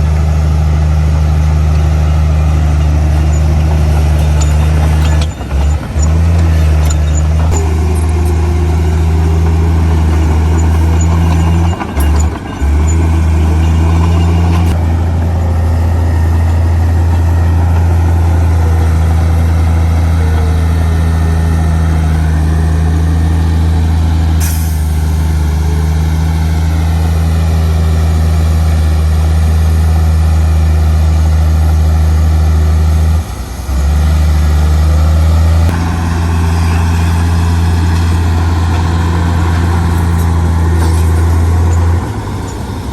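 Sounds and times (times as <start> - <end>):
heavy diesel engine droning: 0.0 - 42.9.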